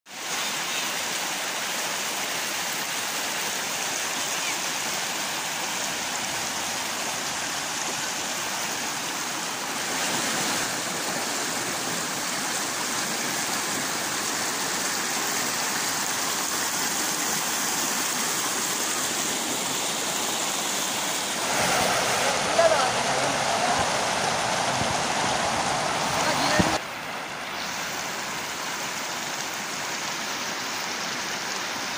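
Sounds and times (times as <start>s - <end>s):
river rushing over stones: 0.1s - 31.9s.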